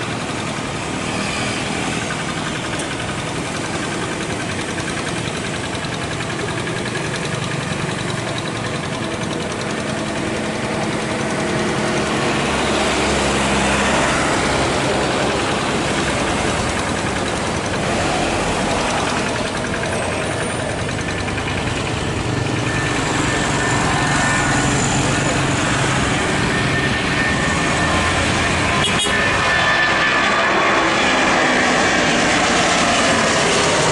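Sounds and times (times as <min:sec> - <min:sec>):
engine noise: 0:00.0 - 0:33.9.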